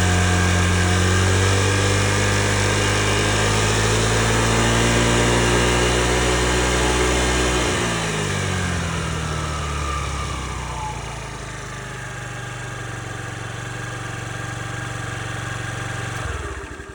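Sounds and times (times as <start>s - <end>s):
scooter engine idling: 0.0s - 16.9s.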